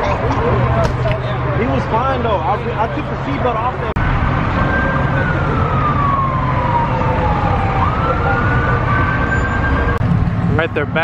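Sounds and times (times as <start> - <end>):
low engine rumble: 0.0 - 11.0
emergency vehicle siren wailing: 1.4 - 10.6.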